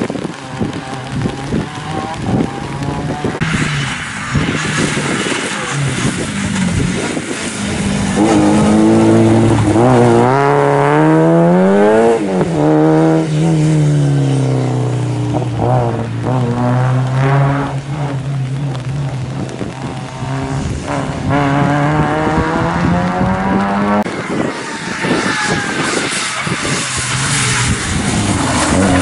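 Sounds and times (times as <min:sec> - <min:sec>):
tyres hissing on wet road: 0:00.0 - 0:29.0
rally car engine passing: 0:00.2 - 0:29.0.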